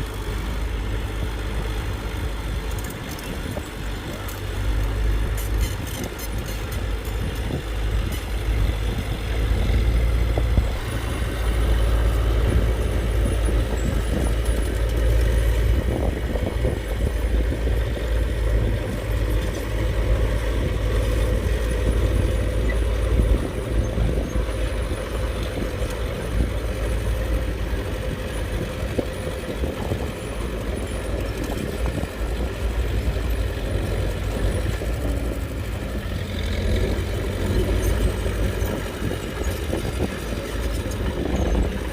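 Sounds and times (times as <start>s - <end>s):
diesel engine rumbling: 0.0s - 41.9s.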